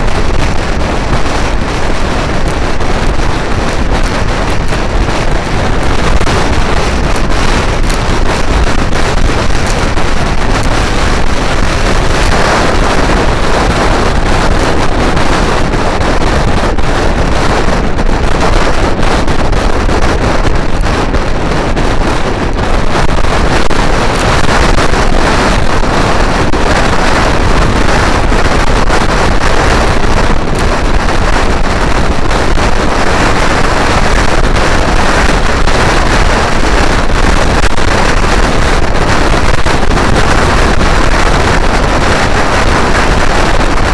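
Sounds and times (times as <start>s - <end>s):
scooter engine drone: 0.0s - 43.9s
wind buffeting microphone: 0.0s - 43.9s.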